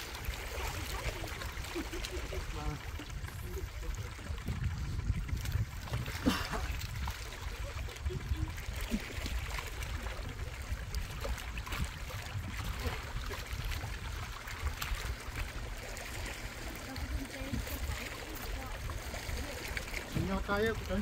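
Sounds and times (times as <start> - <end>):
small clicks and splashes: 0.0 - 21.0
small waves lapping on rocks: 0.0 - 21.0.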